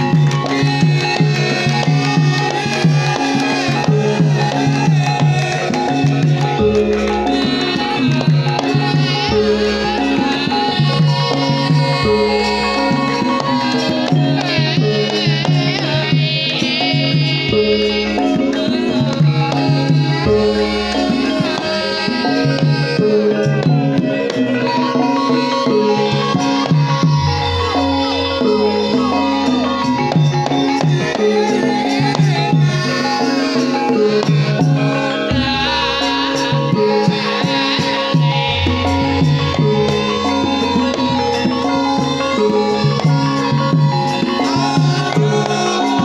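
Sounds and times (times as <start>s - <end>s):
gamelan music: 0.0s - 46.0s
hand drums: 0.0s - 46.0s.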